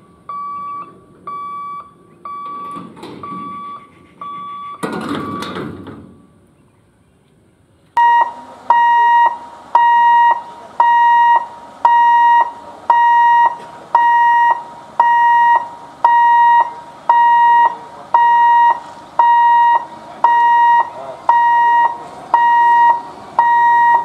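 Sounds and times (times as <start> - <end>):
level crossing alarm beeping: 0.0 - 5.6, 8.0 - 24.0.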